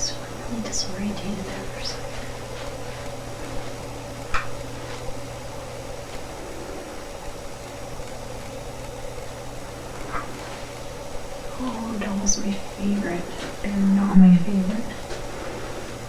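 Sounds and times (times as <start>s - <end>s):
background hiss: 0.0s - 16.0s
low hum: 0.0s - 16.0s.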